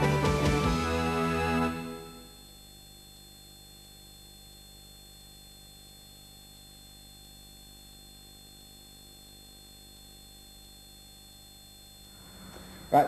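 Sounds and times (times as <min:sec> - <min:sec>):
faint steady hum and hiss: 0:01.7 - 0:13.0.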